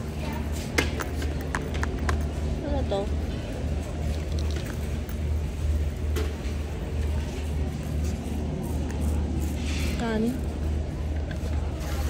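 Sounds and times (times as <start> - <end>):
store background rumble: 0.0 - 12.0.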